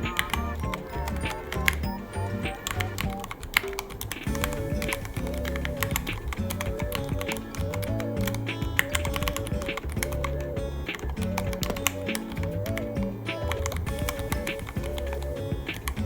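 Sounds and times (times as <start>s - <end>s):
background music with bass line: 0.0s - 16.0s.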